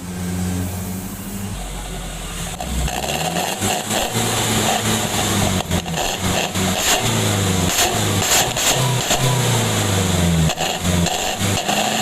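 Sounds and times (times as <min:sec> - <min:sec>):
engine revving with growling exhaust: 0:00.0 - 0:12.0.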